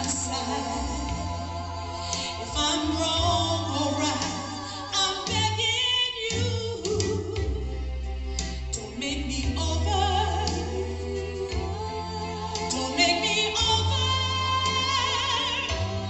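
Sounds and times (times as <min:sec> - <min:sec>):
woman singing with vibrato: 0:00.0 - 0:07.9, 0:08.7 - 0:16.0
accompaniment with bass line: 0:00.0 - 0:16.0.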